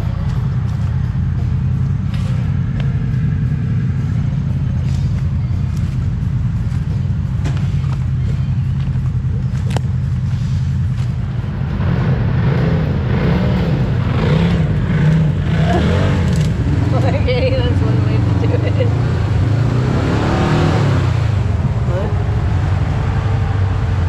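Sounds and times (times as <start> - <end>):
side-by-side engine running: 0.0 - 24.0.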